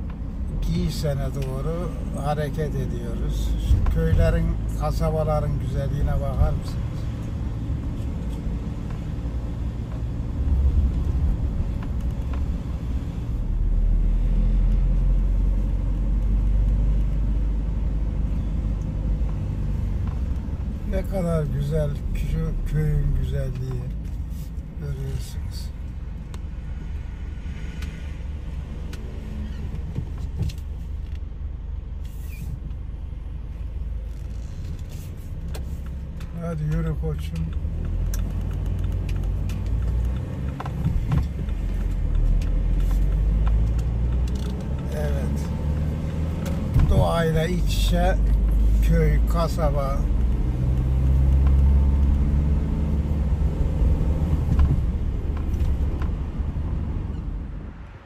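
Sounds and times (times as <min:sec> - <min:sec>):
vehicle engine and road drone: 0:00.0 - 0:58.0.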